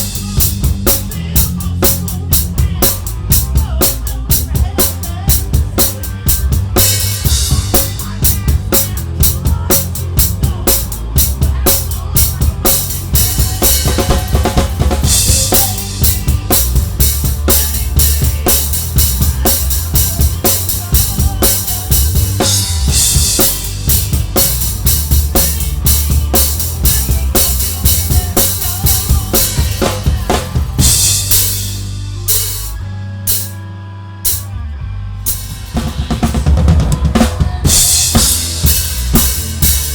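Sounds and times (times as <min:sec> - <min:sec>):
drum kit beat: 0:00.0 - 0:33.6, 0:34.2 - 0:34.5, 0:35.2 - 0:39.9
live band playing: 0:00.0 - 0:39.9.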